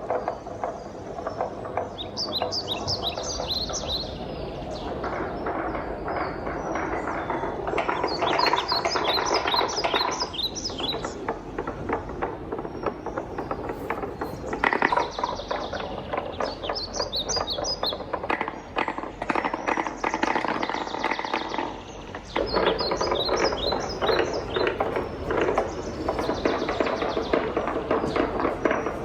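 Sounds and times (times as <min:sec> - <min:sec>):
wooden balls rolling down track: 0:00.0 - 0:29.0.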